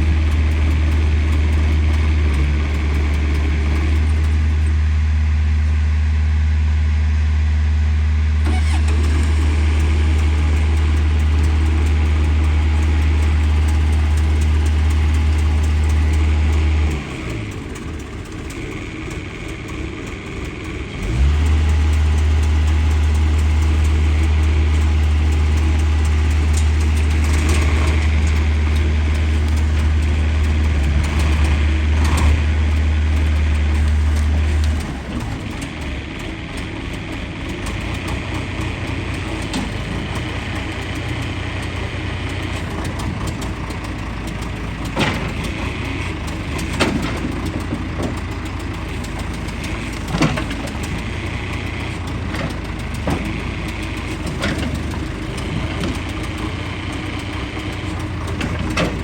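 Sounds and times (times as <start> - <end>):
heavy engine rumbling: 0.0 - 59.0.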